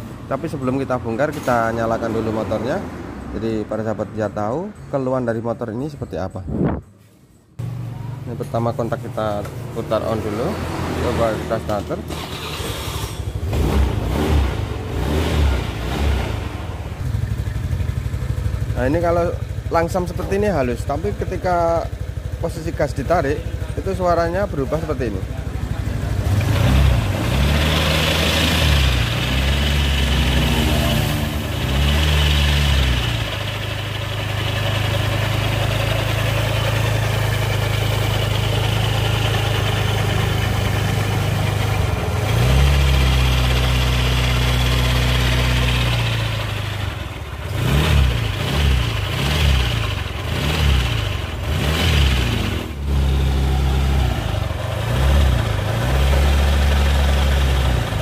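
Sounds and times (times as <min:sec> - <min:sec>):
scooter engine revving: 0:09.9 - 0:58.0.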